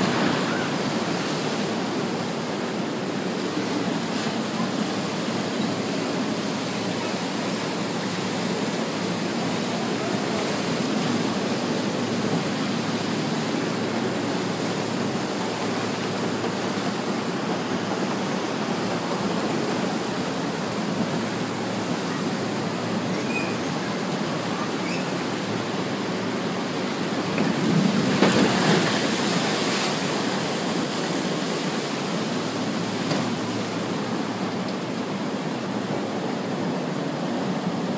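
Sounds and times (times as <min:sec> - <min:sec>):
water rushing down channels: 0:00.0 - 0:37.9
water splashing in a pool: 0:00.0 - 0:37.9.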